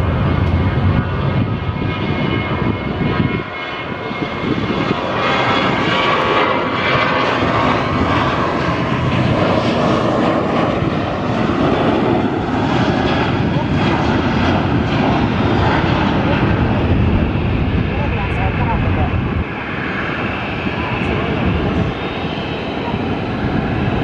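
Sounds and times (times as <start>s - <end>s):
jet engines at takeoff thrust: 0.0s - 24.0s.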